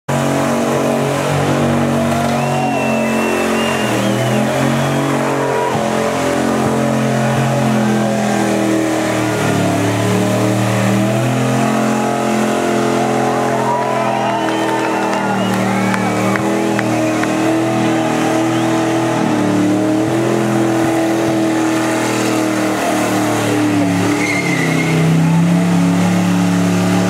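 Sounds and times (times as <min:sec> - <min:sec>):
car engine revving high: 0:00.1 - 0:27.0.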